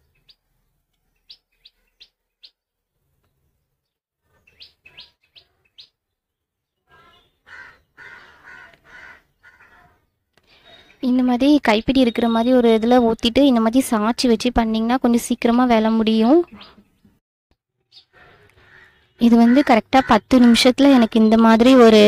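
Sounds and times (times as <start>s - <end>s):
small birds chirping: 0.0s - 17.2s, 17.8s - 22.0s.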